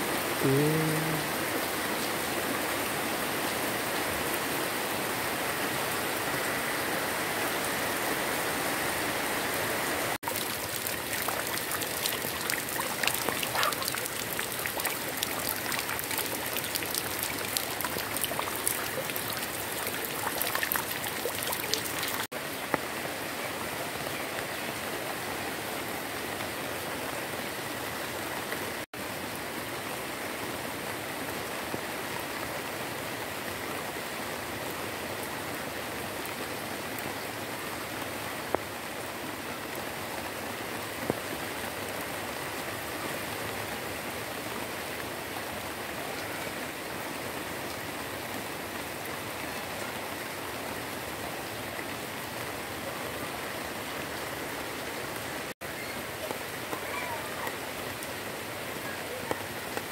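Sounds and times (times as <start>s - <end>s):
running water: 0.0s - 28.9s, 34.9s - 59.9s
rain on plants: 0.0s - 59.9s.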